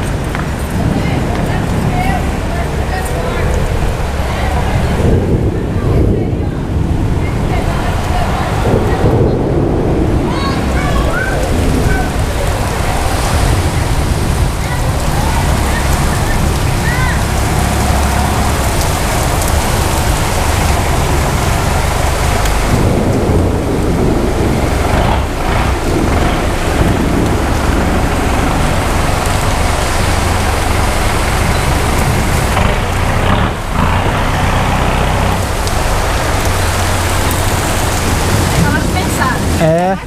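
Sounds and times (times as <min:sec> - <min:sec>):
low rumble of thunder: 0:00.0 - 0:39.8
heavy rain pouring: 0:00.0 - 0:40.0.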